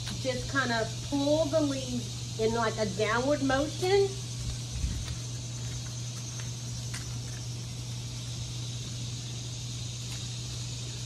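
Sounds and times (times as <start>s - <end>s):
high outdoor drone: 0.0s - 11.0s
steady low hum: 0.0s - 11.0s.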